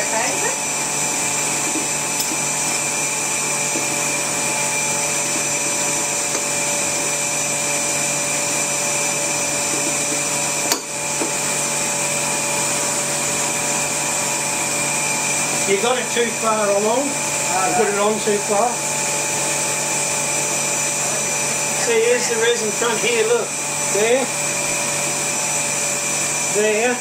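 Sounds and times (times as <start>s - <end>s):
vacuum pump humming: 0.0s - 27.0s.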